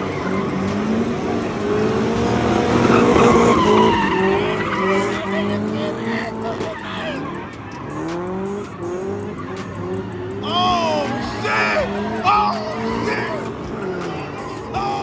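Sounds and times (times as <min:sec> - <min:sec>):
car engine revving: 0:00.0 - 0:15.0
tyres screeching: 0:00.0 - 0:15.0.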